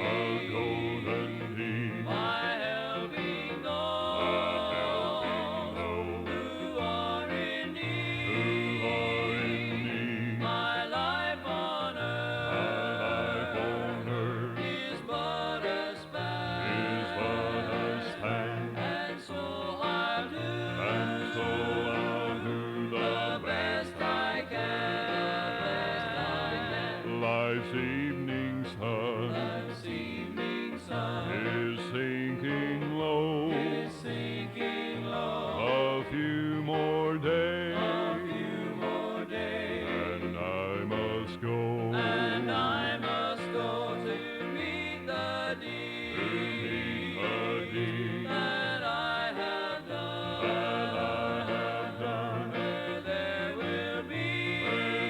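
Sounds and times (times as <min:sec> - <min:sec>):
instrumental backing: 0:00.0 - 0:55.0
vocal group singing in harmony: 0:00.0 - 0:55.0.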